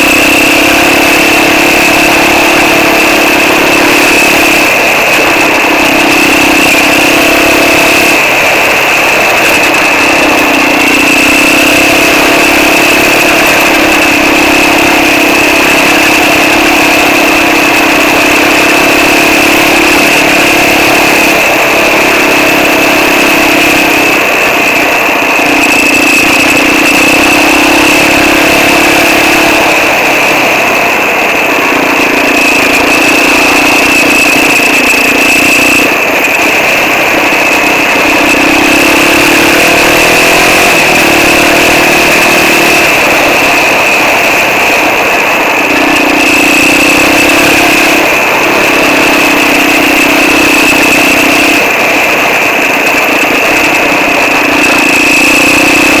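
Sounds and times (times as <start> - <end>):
quad bike engine running: 0.0 - 56.0
steady high whine: 0.0 - 56.0.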